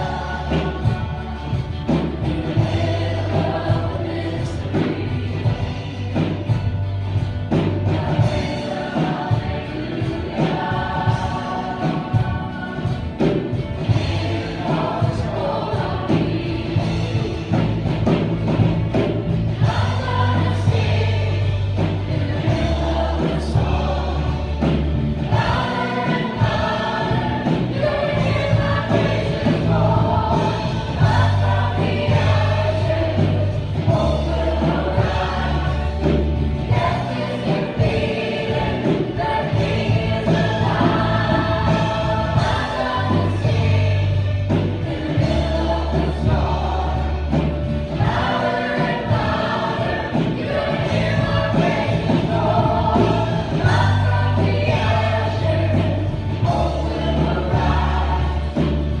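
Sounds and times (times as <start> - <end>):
electric bass: 0.0 - 59.0.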